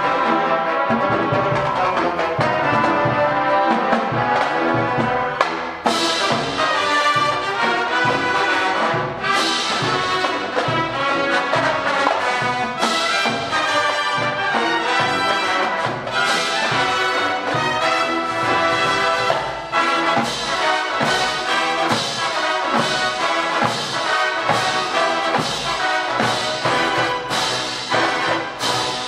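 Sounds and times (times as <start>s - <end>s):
marching band brass: 0.0s - 29.0s
marching drums beat: 1.1s - 29.0s.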